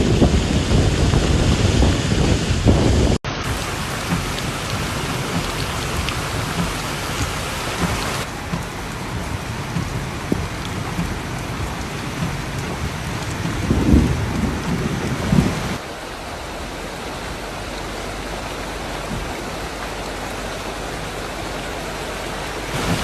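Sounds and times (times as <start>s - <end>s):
heavy rain pattering: 0.0s - 23.0s.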